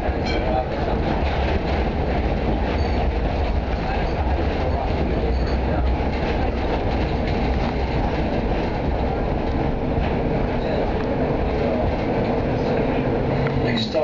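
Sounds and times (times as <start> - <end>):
tram low rumble on rails: 0.0 - 14.0.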